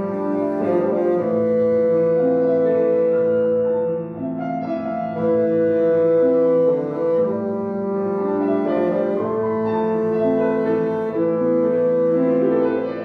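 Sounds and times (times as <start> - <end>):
bassoon melody: 0.0 - 13.0
piano accompaniment: 0.0 - 13.0.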